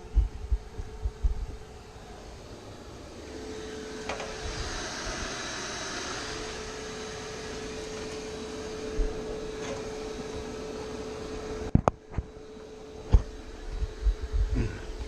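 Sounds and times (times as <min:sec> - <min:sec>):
vacuum humming: 0:00.0 - 0:15.0.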